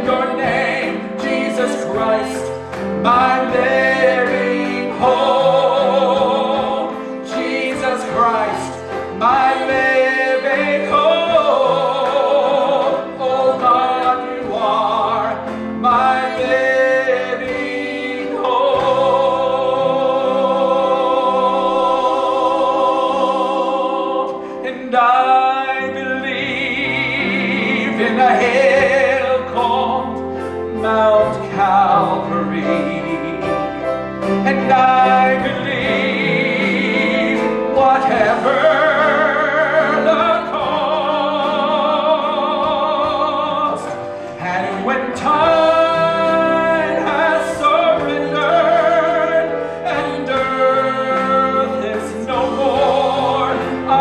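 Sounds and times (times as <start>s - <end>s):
instrumental accompaniment: 0.0s - 54.0s
person singing with vibrato: 0.0s - 54.0s.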